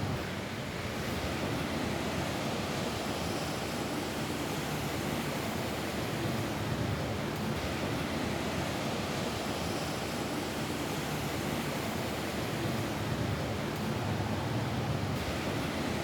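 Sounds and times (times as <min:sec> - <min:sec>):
rain on a roof: 0:00.0 - 0:16.0.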